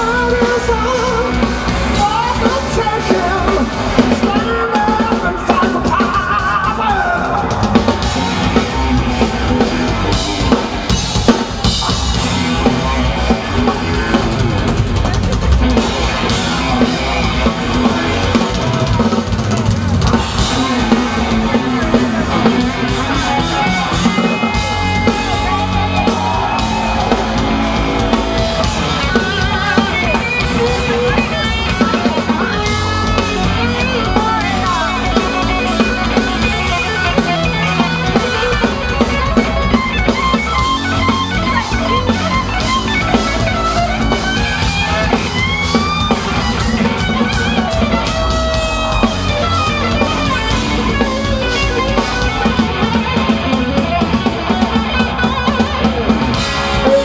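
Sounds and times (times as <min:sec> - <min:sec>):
electric guitar lead: 0:00.0 - 0:57.0
live hard rock band: 0:00.0 - 0:57.0.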